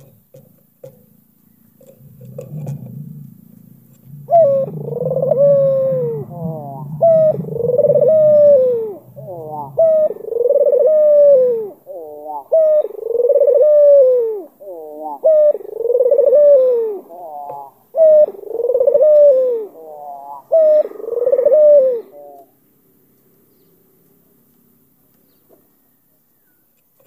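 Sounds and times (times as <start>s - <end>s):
dove cooing: 0.0s - 22.8s.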